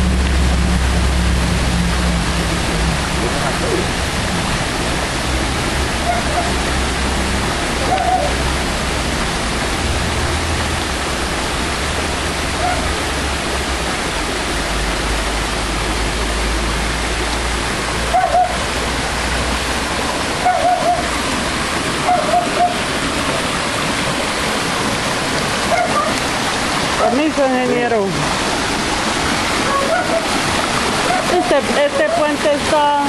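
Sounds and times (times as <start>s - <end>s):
stream rushing over boulders: 0.0s - 33.0s.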